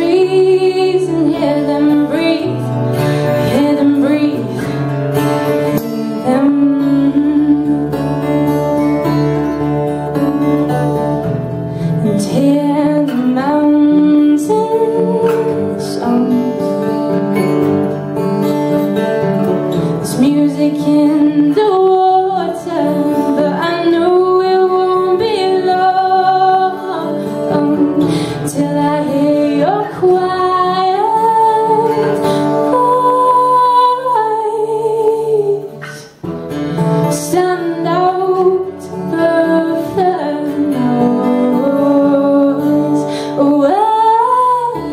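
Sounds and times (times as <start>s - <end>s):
acoustic guitars: 0.0s - 44.9s
woman singing folk song: 0.0s - 44.9s.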